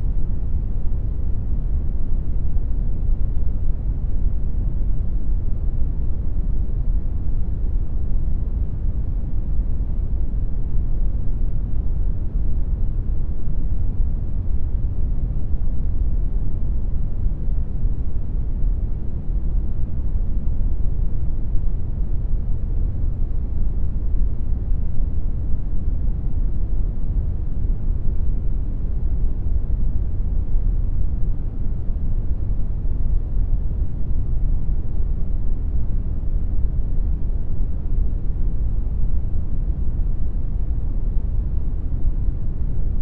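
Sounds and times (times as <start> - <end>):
brown noise rumble: 0.0 - 43.0.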